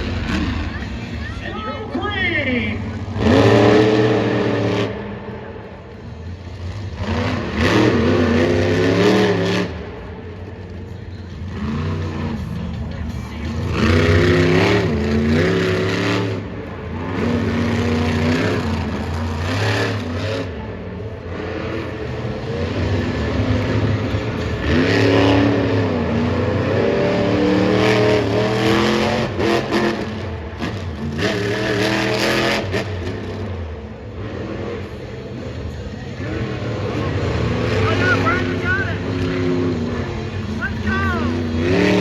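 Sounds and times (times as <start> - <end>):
monster truck engines revving: 0.0 - 42.0.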